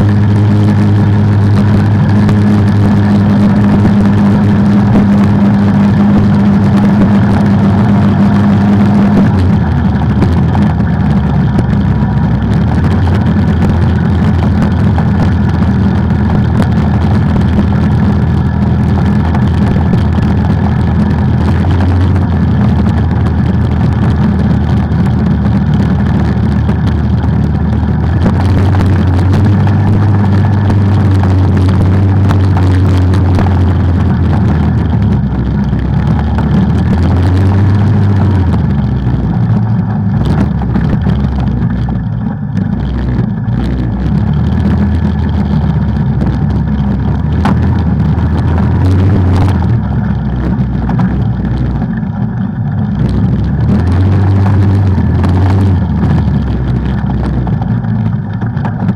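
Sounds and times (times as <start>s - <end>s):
off-road vehicle engine running: 0.0s - 58.9s.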